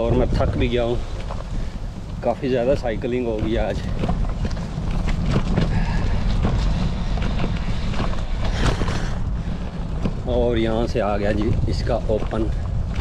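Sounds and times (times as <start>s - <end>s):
bicycle rolling over rough trail: 0.0s - 13.0s
wind rumble on microphone: 0.0s - 13.0s.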